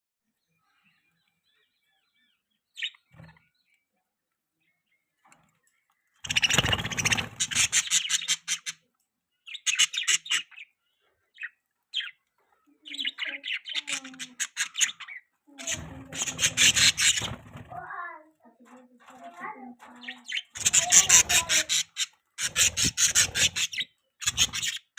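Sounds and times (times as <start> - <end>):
budgies chirping: 0.4 - 4.0, 4.6 - 24.9.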